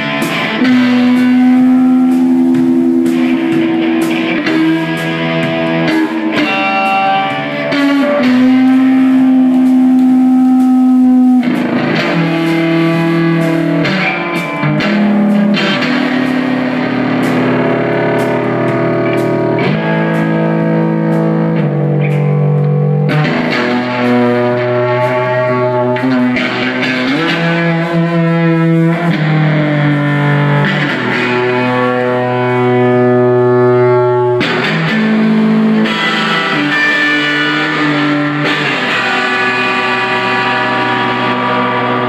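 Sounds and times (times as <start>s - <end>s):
bass guitar: 0.0s - 42.0s
distorted electric guitars: 0.0s - 42.0s
drums with cymbal strikes: 0.0s - 42.0s.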